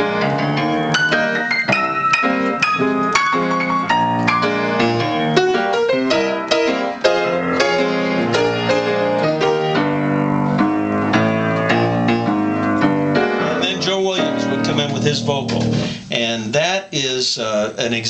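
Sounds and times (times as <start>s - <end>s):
solo piano playing jazz blues: 0.0s - 16.1s.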